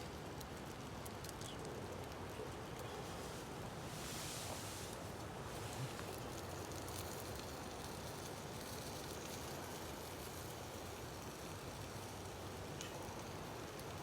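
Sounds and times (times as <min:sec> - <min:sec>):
steady hissing background noise: 0:00.0 - 0:14.0.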